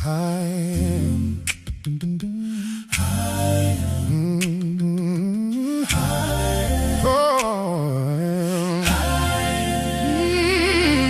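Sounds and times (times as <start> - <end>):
wordless singing with vibrato: 0.0 - 11.0.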